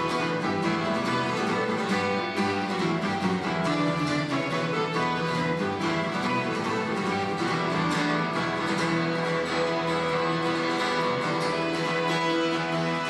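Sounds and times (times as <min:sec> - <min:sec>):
acoustic guitar strumming: 0:00.0 - 0:13.0
violins bowing held notes: 0:00.0 - 0:13.0.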